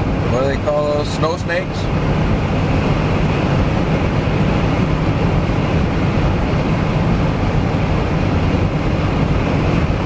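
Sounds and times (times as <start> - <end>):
car driving heard from cabin: 0.0 - 10.0.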